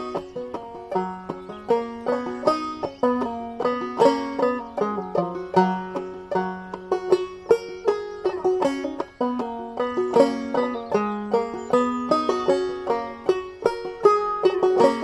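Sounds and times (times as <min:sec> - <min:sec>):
banjo plucked and brushed: 0:00.0 - 0:15.0.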